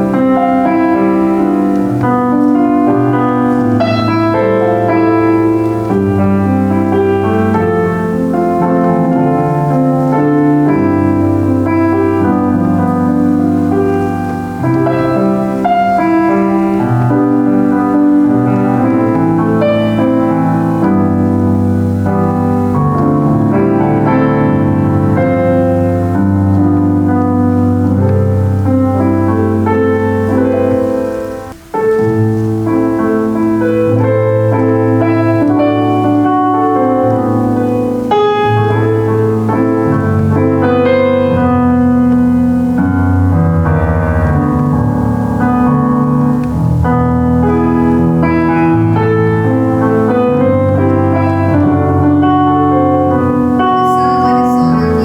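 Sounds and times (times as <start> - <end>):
solo piano chords and melody: 0.0 - 55.0.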